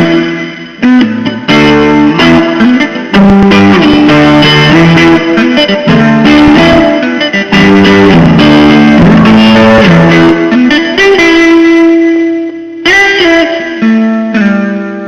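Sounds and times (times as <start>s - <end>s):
blues guitar playing: 0.0s - 15.0s.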